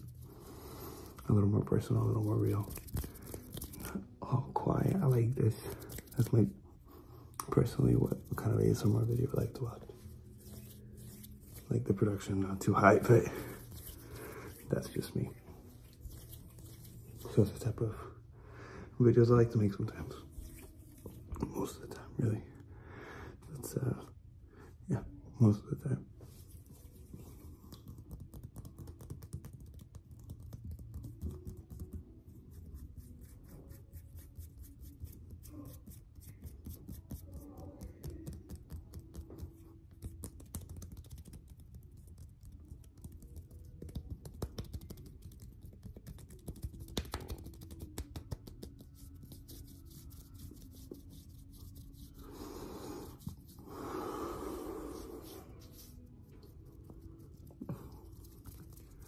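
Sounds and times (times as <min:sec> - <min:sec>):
hands rubbing together: 0:00.0 - 0:04.1, 0:04.7 - 0:06.6, 0:07.6 - 0:17.9, 0:20.0 - 0:21.3, 0:26.2 - 0:59.0.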